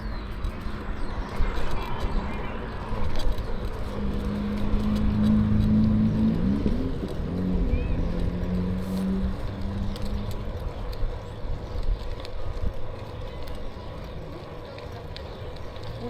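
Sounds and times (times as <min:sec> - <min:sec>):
tyre rumble on pavement: 0:00.0 - 0:16.0.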